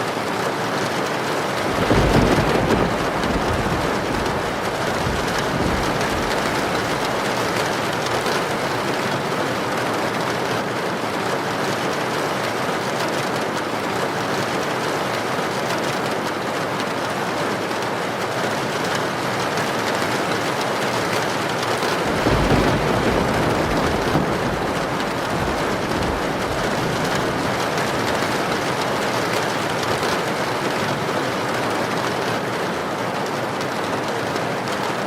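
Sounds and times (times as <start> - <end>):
heavy rain with wind: 0.0 - 35.0.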